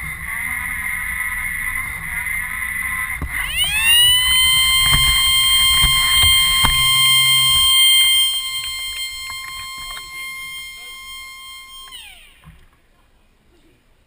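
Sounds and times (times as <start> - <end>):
robot drive motors whining: 0.0 - 12.7
alarm siren: 0.2 - 12.6.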